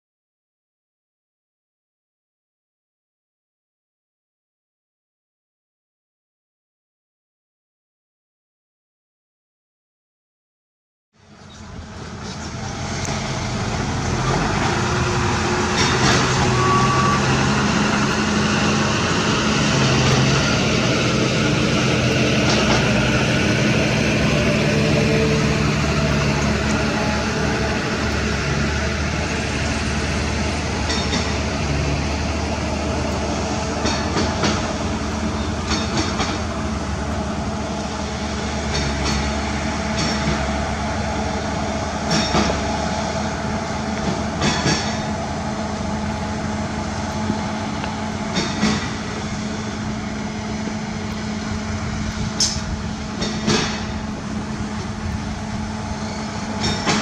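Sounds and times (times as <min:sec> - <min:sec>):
heavy diesel machine running: 0:11.3 - 0:57.0.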